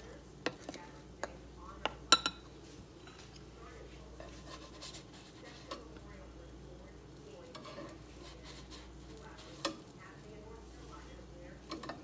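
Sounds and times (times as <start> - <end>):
batter sizzling in a pan: 0.0 - 12.0
spatula scraping and tapping pan: 0.4 - 6.1, 7.4 - 12.0.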